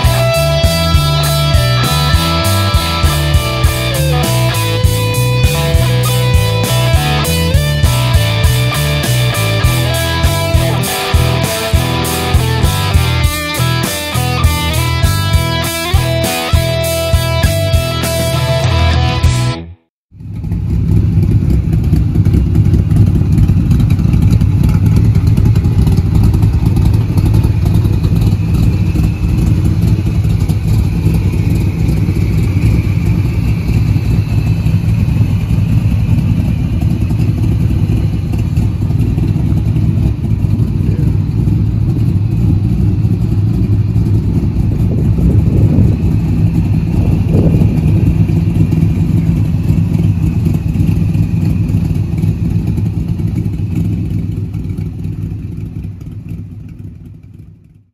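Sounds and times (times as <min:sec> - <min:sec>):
car engine running: 0:00.0 - 0:57.9.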